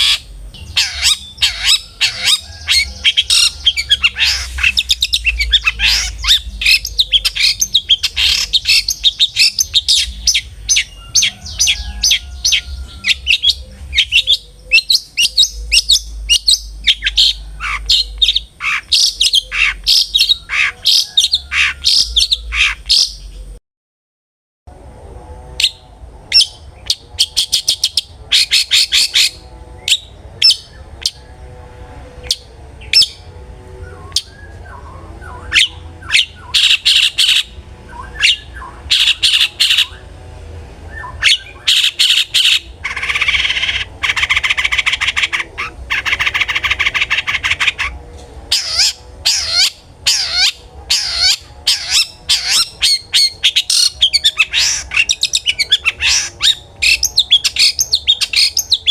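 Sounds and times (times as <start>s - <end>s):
bird calls and harsh chattering: 0.0s - 23.6s, 25.6s - 31.5s, 32.2s - 58.9s.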